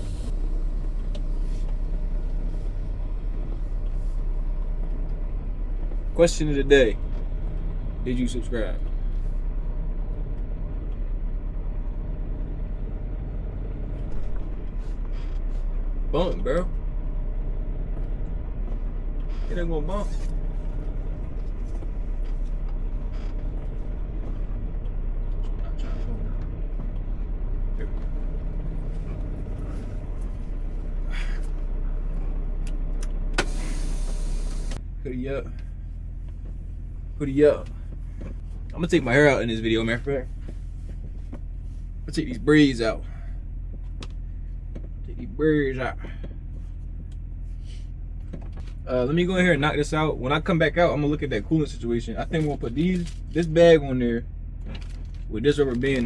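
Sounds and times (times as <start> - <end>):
truck engine rumbling: 0.0 - 56.0.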